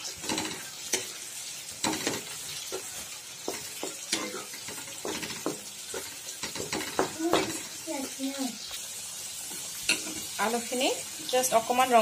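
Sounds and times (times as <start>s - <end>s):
spatula scraping a pan: 0.0s - 8.2s, 8.8s - 11.8s
onions sizzling in hot oil: 0.0s - 12.0s.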